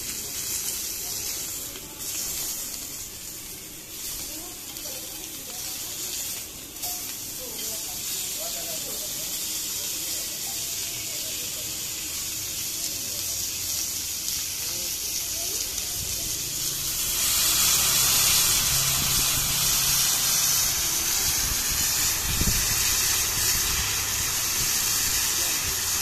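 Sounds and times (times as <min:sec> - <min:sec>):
meat sizzling in skillets: 0:00.0 - 0:26.0.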